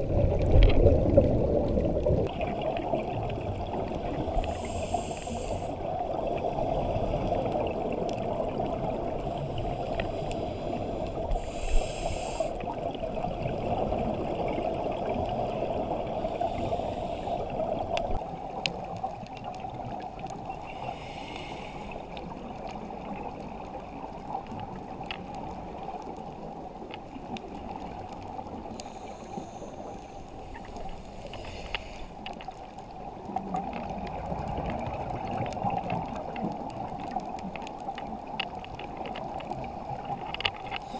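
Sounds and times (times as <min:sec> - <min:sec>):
muffled underwater water rush: 0:00.0 - 0:40.9.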